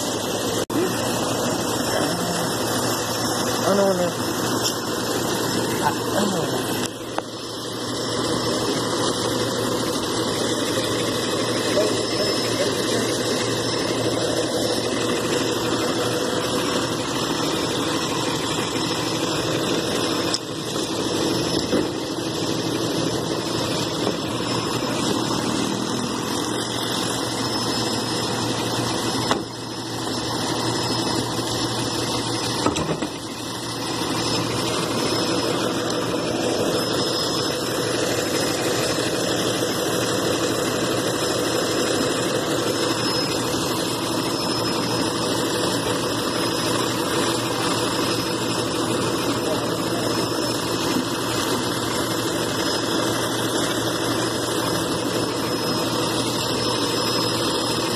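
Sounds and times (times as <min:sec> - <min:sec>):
garbage truck engine idling: 0:00.0 - 0:57.9.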